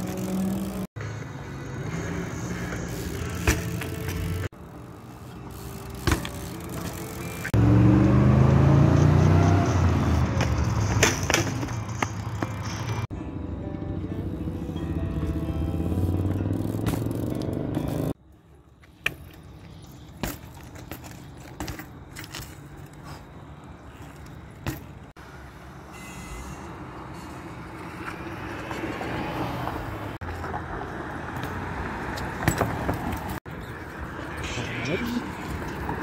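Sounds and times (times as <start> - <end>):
bikes rolling on concrete: 0.0 - 13.2, 14.2 - 36.0.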